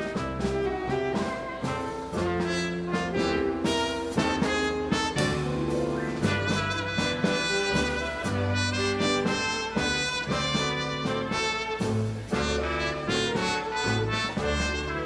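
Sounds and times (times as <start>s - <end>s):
horn section holding chords: 0.0s - 15.0s
percussion strokes: 0.0s - 15.0s.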